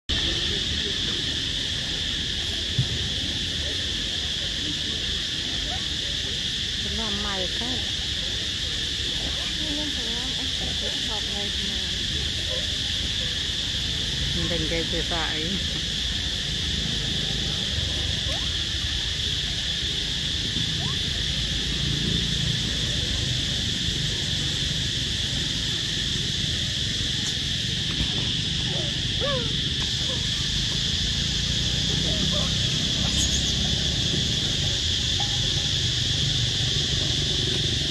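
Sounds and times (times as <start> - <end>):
high-pitched insect drone: 0.1 - 37.9.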